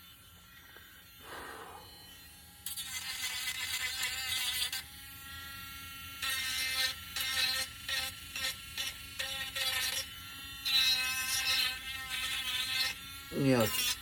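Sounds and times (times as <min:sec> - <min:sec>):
electric sander on wood: 0:00.0 - 0:14.0.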